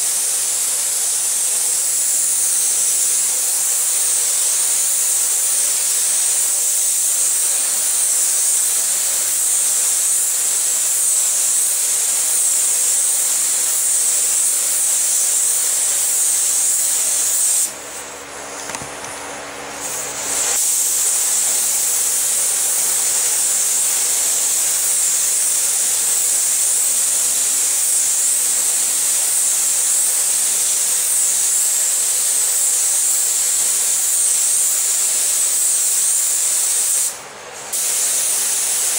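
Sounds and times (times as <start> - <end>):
paint spray gun hissing: 0.0 - 38.9.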